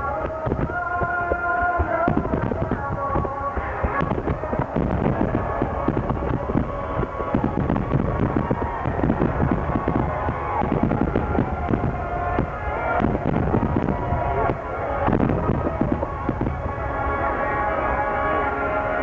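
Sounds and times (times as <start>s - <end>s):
fireworks booming and crackling: 0.0s - 17.0s
music playing: 0.0s - 19.0s.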